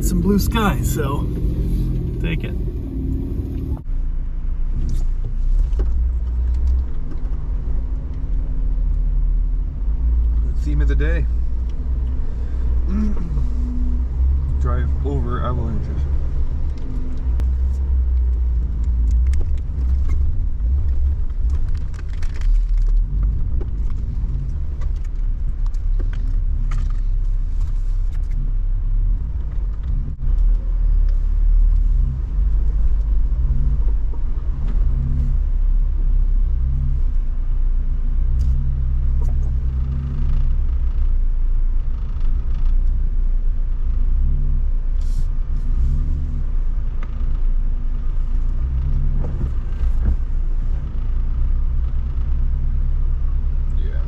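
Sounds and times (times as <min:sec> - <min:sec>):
engine running at low speed: 0:00.0 - 0:54.0.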